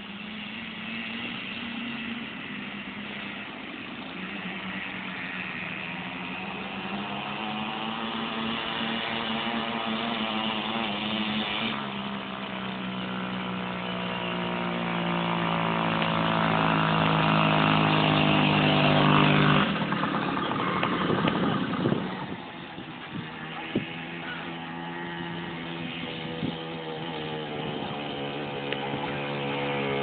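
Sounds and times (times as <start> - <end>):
two-stroke motorbike engine revving: 0.0 - 30.0.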